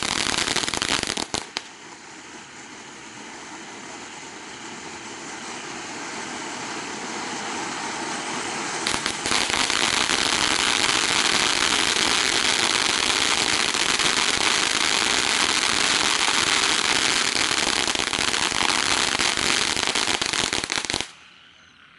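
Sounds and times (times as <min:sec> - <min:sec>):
firework fountain hissing and crackling: 0:00.0 - 0:21.9.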